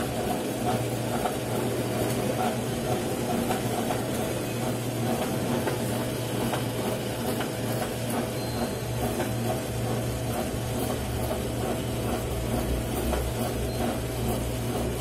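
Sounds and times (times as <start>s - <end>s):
copier humming: 0.0s - 15.0s.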